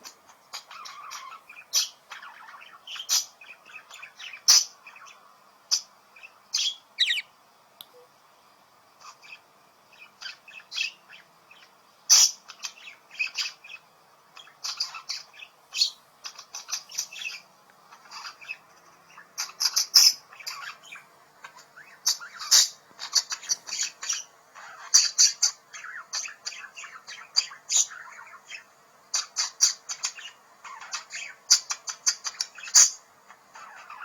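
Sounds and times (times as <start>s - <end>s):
budgerigar chirping and chattering: 0.0s - 7.3s, 9.0s - 13.8s, 14.4s - 34.0s.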